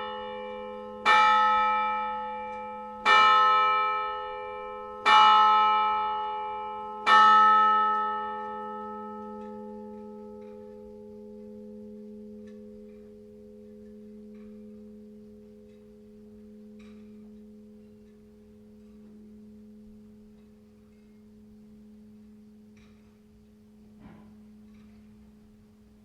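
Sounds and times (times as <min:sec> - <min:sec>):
church bell humming: 0:00.0 - 0:26.0.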